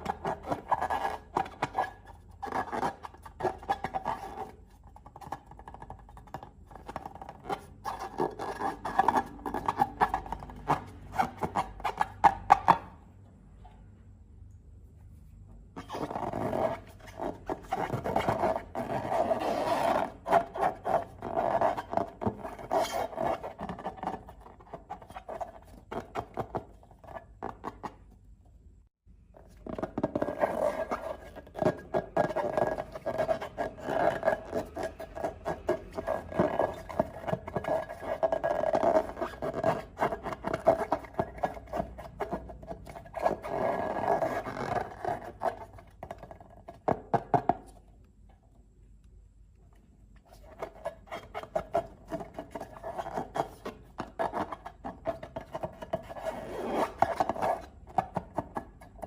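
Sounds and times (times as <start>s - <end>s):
rubber balloons rubbing and squeaking: 0.0s - 13.0s, 15.6s - 28.2s, 29.3s - 47.7s, 50.2s - 59.0s.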